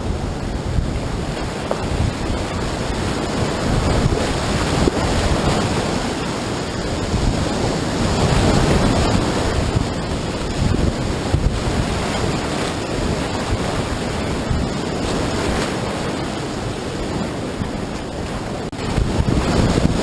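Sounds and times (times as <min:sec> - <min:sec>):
river rapids rushing: 0:00.0 - 0:20.0
wind buffeting microphone: 0:00.0 - 0:20.0.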